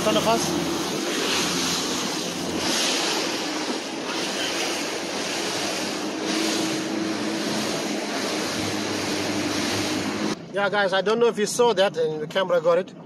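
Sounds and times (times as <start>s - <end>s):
boat engine humming: 0.0s - 13.0s
rush of water and wind: 0.0s - 13.0s.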